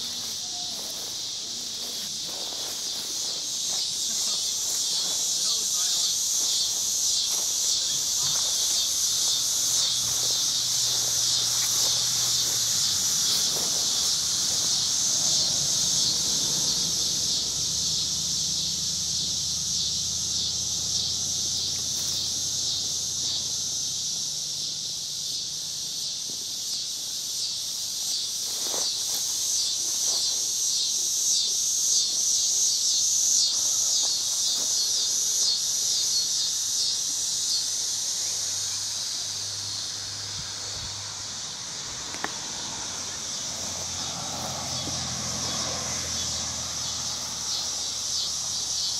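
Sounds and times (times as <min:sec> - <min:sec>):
insects chirping in chorus: 0:00.0 - 0:48.9.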